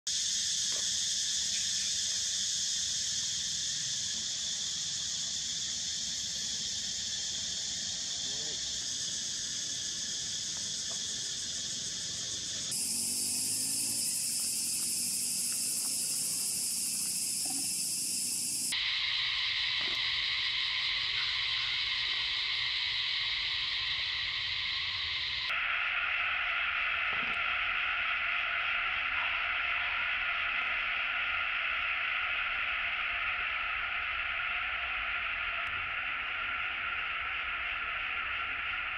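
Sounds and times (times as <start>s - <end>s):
high-pitched insect chorus: 0.1s - 38.9s.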